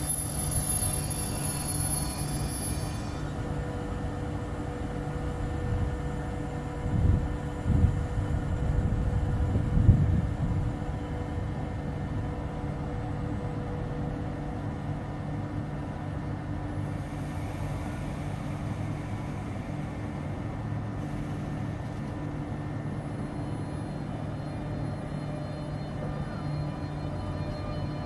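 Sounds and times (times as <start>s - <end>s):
train low hum: 0.0s - 28.0s.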